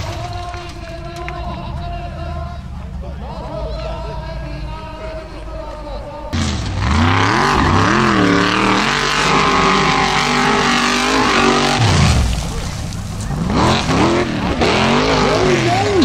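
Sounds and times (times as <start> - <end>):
buggy engines revving hard: 0.0 - 16.0.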